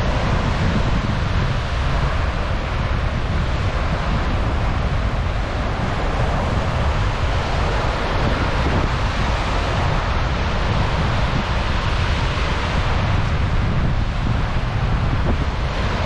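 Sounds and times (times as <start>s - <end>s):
small waves breaking on beach: 0.0s - 16.0s
wind rumbling on microphone: 0.0s - 16.0s.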